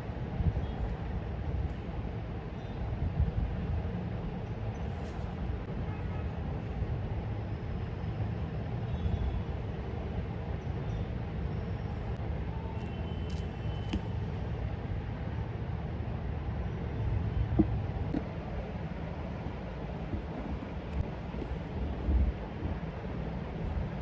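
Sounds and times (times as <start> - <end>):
city traffic hum: 0.0 - 24.0.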